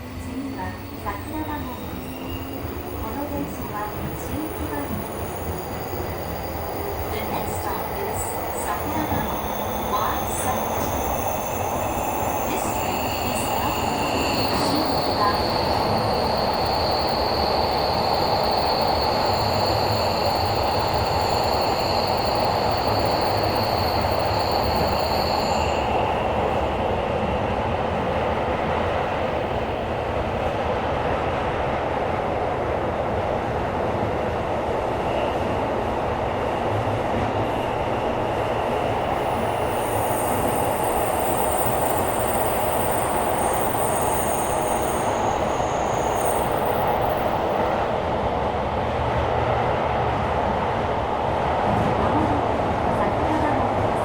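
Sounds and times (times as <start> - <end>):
subway train rumbling roar: 0.0 - 54.0.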